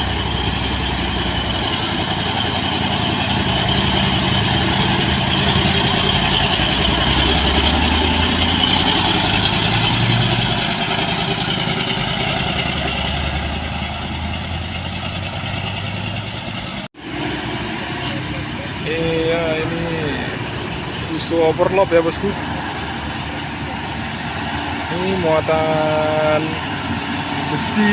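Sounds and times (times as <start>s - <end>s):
truck diesel engine droning: 0.0s - 27.9s.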